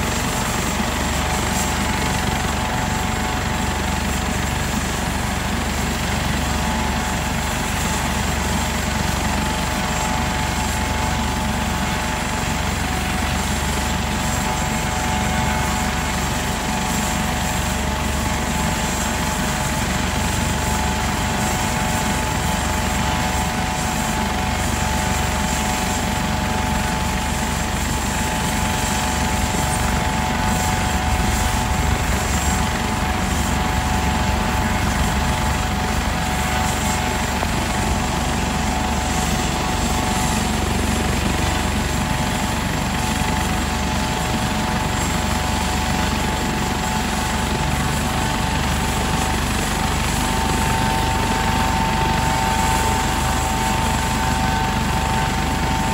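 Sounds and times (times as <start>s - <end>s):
helicopter rotor and engine: 0.0s - 55.9s
high turbine whine: 0.0s - 55.9s.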